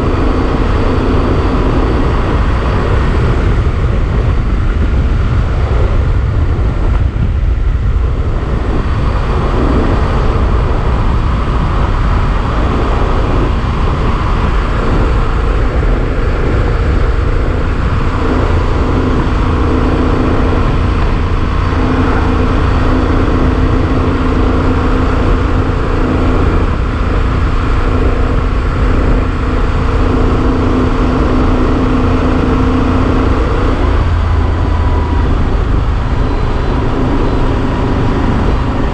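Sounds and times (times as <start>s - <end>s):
motorcycle engine drone: 0.0s - 38.9s
wind rumble on microphone: 0.0s - 38.9s.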